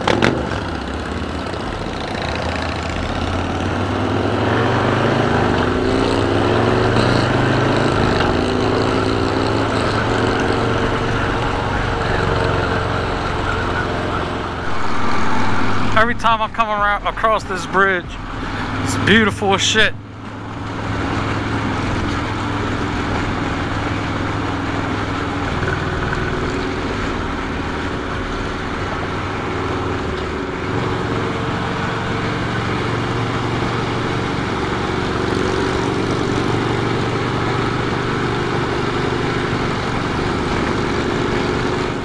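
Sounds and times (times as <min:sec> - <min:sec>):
motorcycle engine cruising: 0:00.0 - 0:42.0.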